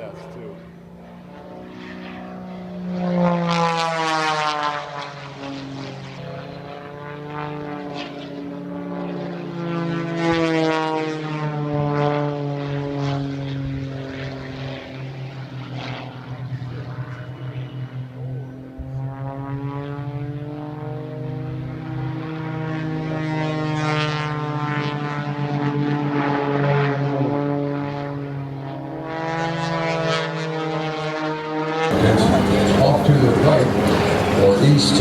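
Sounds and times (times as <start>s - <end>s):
propeller airplane flying past: 0.0s - 35.0s.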